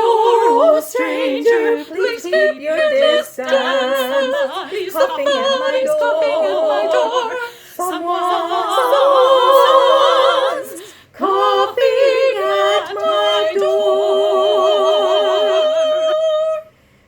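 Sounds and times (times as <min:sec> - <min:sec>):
women singing in close harmony: 0:00.0 - 0:16.8.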